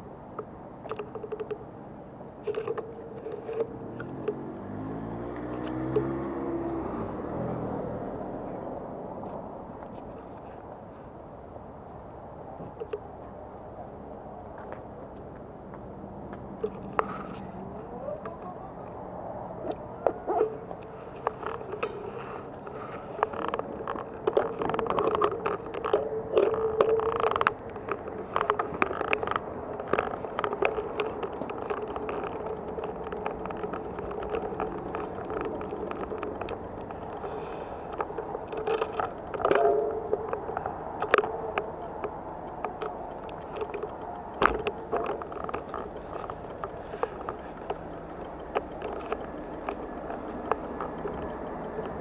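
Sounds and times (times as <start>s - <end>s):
bicycle rolling over asphalt: 0.0s - 52.0s
bike clicks and rattles: 0.0s - 52.0s.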